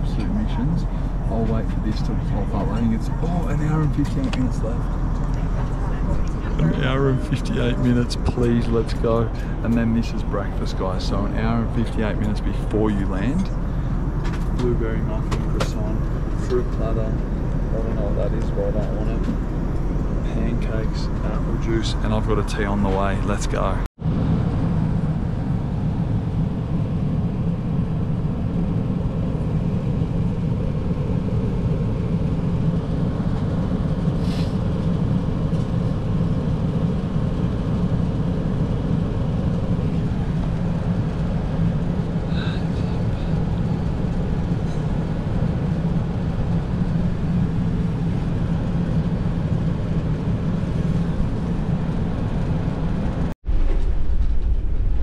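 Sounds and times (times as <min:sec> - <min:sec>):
airliner cabin noise: 0:00.0 - 0:55.0.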